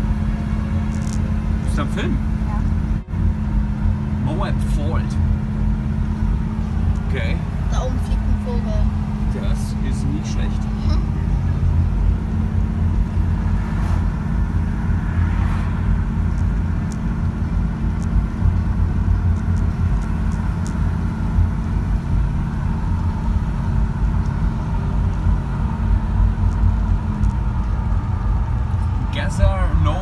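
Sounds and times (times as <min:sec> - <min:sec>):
car tyre and engine rumble: 0:00.0 - 0:30.0.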